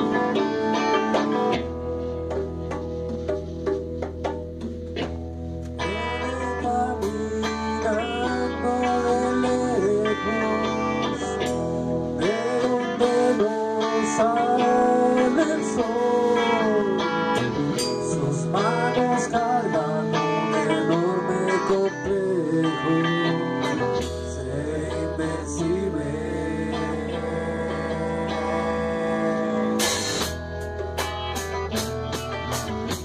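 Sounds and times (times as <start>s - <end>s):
electric guitar bending notes: 0.0s - 33.0s
rock band playing: 0.0s - 33.0s.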